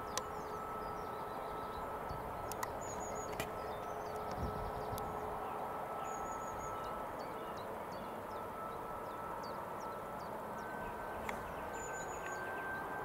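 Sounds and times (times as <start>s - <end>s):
small birds chirping: 0.0s - 12.9s
distant jet engine: 0.0s - 13.0s.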